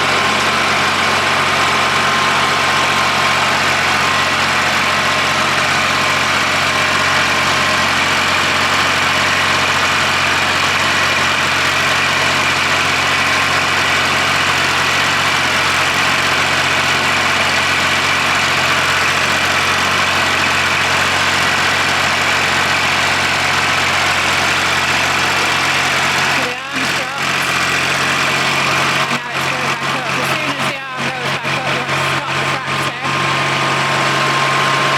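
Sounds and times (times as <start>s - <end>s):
baler machinery whirring: 0.0s - 34.9s
tractor engine running: 0.0s - 34.9s.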